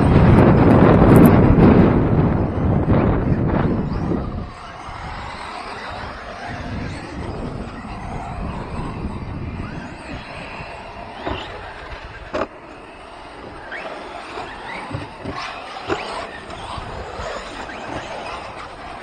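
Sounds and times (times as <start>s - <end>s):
steady rushing noise: 0.0s - 19.0s
toy truck motor whines: 0.0s - 19.0s.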